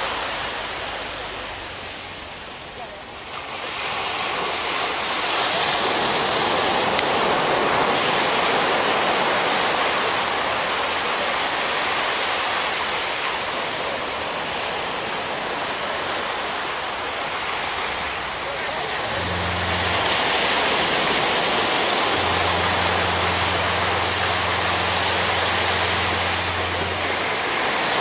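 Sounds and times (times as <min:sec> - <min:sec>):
small waves washing up beach: 0:00.0 - 0:28.0.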